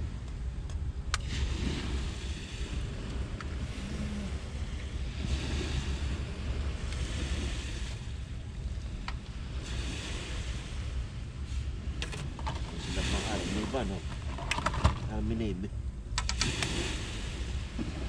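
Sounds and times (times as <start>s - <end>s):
low rumble: 0.0s - 18.0s
surf washing on beach: 0.0s - 18.0s
wind buffeting microphone: 0.0s - 18.0s.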